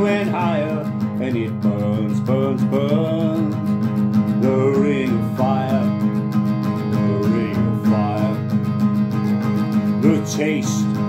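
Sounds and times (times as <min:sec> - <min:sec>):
man singing wordless melody: 0:00.0 - 0:03.7, 0:04.3 - 0:08.7, 0:09.9 - 0:11.0
acoustic guitar strumming: 0:00.0 - 0:11.0.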